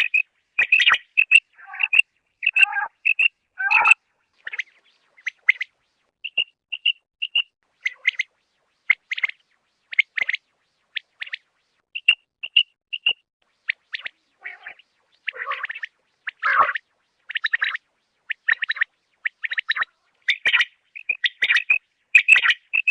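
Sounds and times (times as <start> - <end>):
quail calling: 0.0 - 5.7, 6.3 - 8.3, 12.0 - 22.9.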